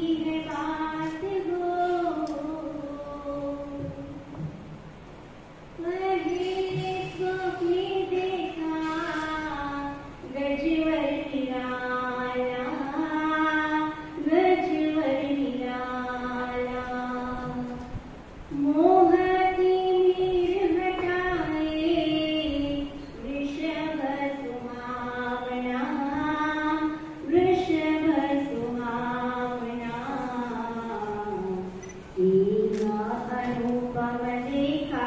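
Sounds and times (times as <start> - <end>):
woman singing into a microphone: 0.0 - 4.5, 5.7 - 35.0.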